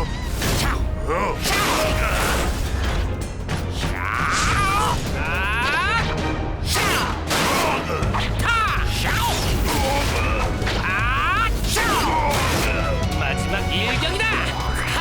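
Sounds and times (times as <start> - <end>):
cartoon background music: 0.0 - 15.0.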